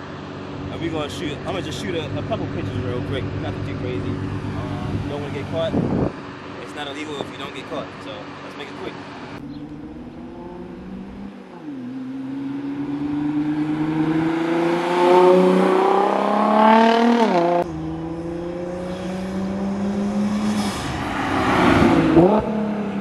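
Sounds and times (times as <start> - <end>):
sports car accelerating by: 0.2 - 7.6, 8.2 - 23.0.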